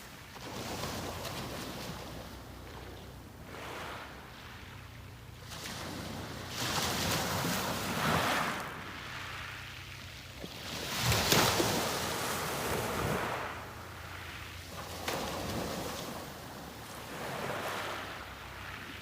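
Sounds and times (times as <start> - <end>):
sea waves breaking: 0.0 - 19.0.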